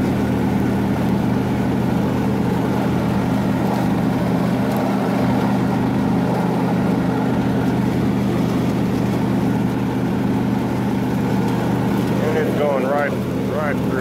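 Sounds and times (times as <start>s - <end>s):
riding mower engine cutting grass: 0.0s - 14.0s.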